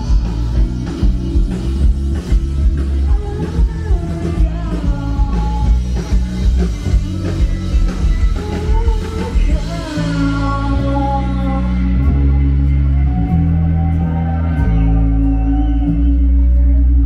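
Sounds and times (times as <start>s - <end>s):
heavy sustained bass: 0.0s - 17.0s
live band music: 0.0s - 17.0s
person singing: 0.0s - 17.0s.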